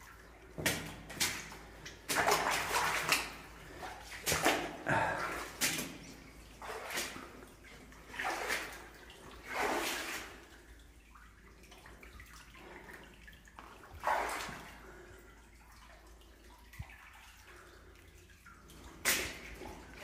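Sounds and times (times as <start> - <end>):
water swishing: 0.0 - 20.0.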